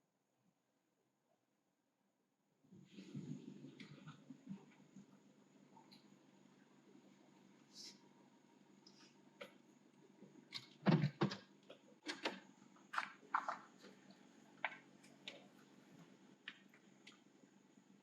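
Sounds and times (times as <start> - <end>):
low steady hum: 2.6 - 18.0.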